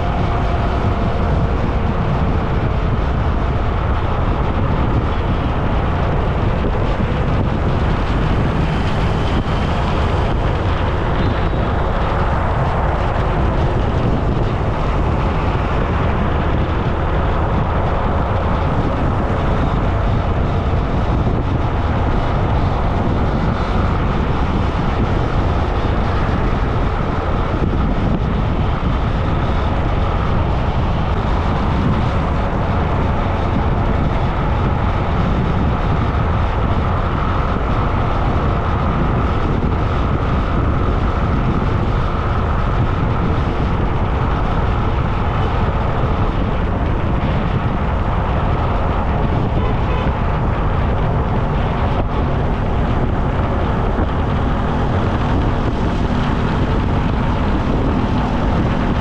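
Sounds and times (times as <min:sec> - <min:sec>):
road noise: 0:00.0 - 0:59.0
wind rushing on microphone: 0:00.0 - 0:59.0.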